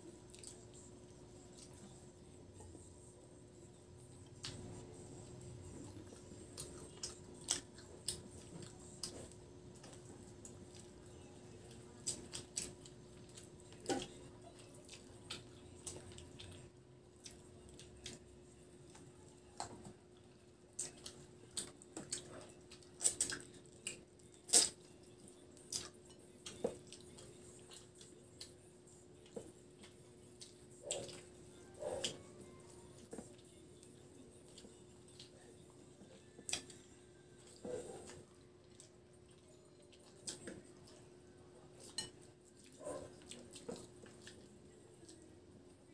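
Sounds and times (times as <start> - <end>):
mouths chewing and smacking: 0.0 - 2.8, 4.0 - 45.4
faint steady hum: 0.0 - 45.9.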